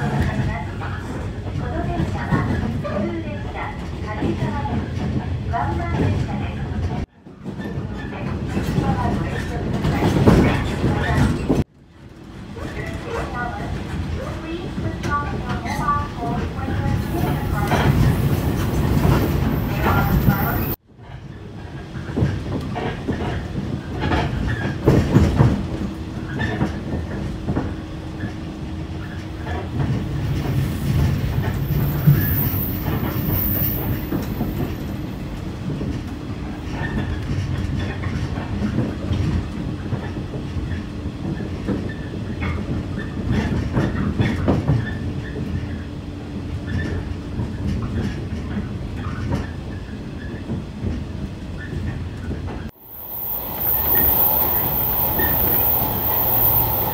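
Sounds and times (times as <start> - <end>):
train rumble inside carriage: 0.0 - 56.9.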